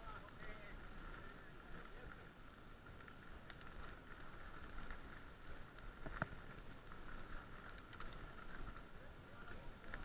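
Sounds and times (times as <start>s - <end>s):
bicycle rolling on rough track: 0.0s - 10.0s.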